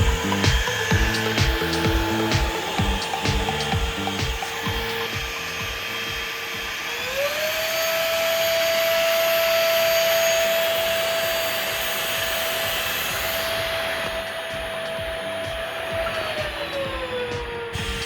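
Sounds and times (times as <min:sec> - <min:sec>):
vacuum cleaner whining: 0:00.0 - 0:18.0.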